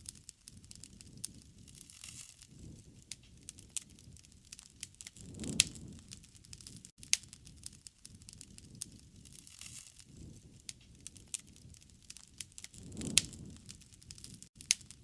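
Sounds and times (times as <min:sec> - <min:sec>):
campfire crackling and popping: 0:00.0 - 0:15.0
low rumble of flame: 0:00.0 - 0:15.0.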